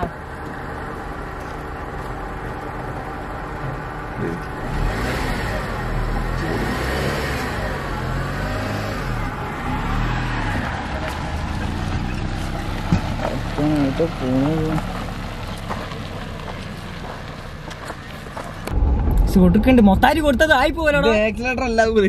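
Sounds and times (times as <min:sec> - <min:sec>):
car engine revving unevenly: 0:00.0 - 0:19.3.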